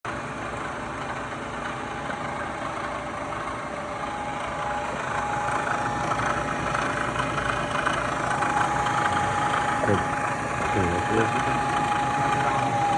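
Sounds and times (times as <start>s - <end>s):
milling machine humming: 0.1s - 12.9s
thin steady whine: 0.1s - 12.9s.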